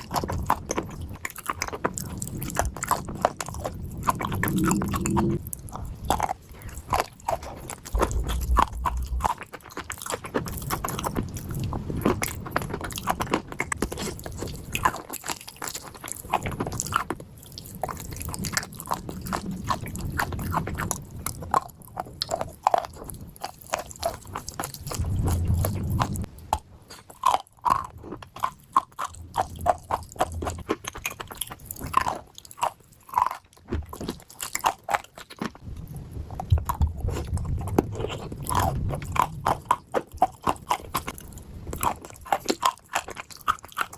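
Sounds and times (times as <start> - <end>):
clay chunks being chewed: 0.0 - 43.9.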